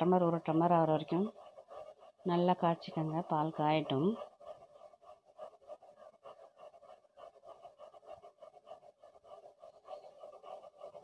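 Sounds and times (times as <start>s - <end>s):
milk fluttering in a pot: 0.0s - 11.0s.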